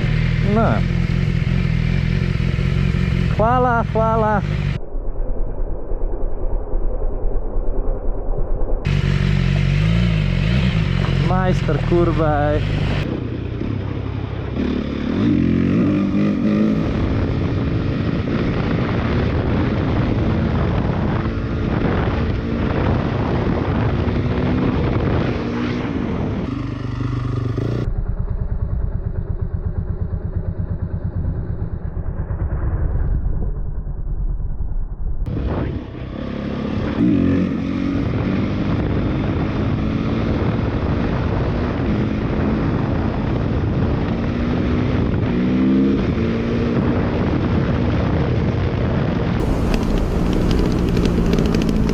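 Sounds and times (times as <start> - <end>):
motorcycle engine revving: 0.0 - 4.8, 8.9 - 33.3, 35.3 - 51.9
wind rushing noise: 1.7 - 27.9, 31.5 - 51.9.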